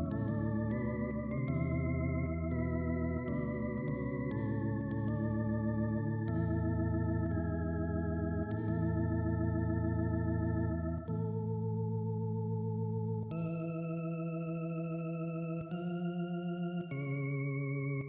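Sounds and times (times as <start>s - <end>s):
organ chords: 0.0s - 18.0s.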